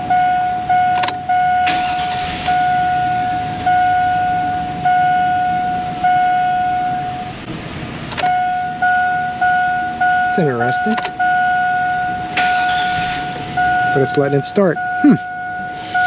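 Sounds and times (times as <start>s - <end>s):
dashboard warning chime dinging: 0.0s - 7.5s, 8.1s - 16.0s
car engine cranking and starting: 0.0s - 16.0s.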